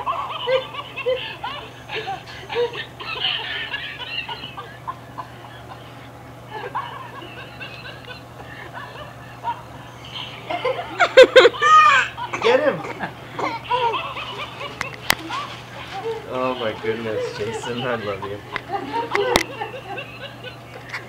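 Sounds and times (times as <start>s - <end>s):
people laughing softly: 0.0s - 21.0s.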